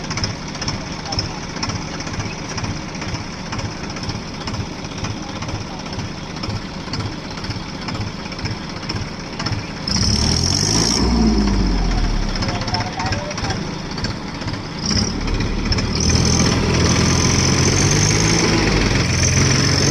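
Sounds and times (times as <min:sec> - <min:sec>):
diesel tractor engine: 0:00.0 - 0:19.9.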